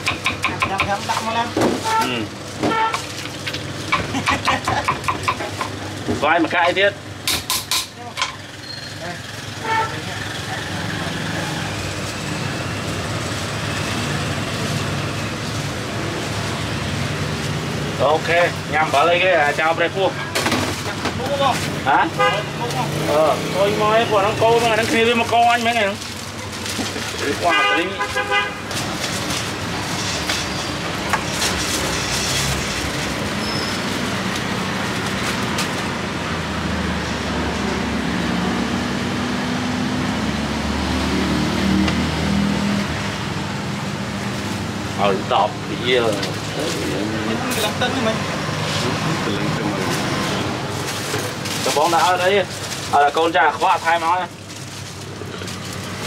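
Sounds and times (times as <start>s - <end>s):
street traffic noise: 0.0s - 56.0s
vehicle engines droning: 0.0s - 56.0s.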